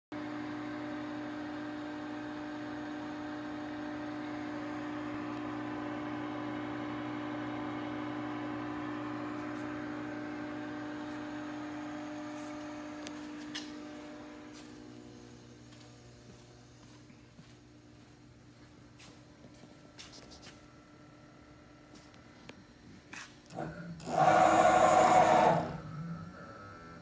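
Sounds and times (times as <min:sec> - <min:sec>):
electrical hum: 0:00.2 - 0:27.0
fan whir: 0:00.2 - 0:27.0.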